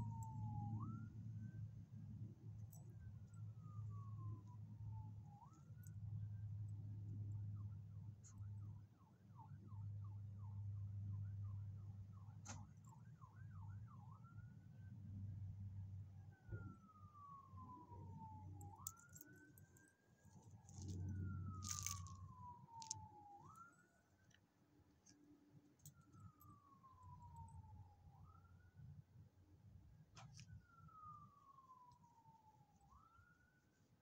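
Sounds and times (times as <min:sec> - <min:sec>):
distant emergency siren: 0:00.0 - 0:34.0.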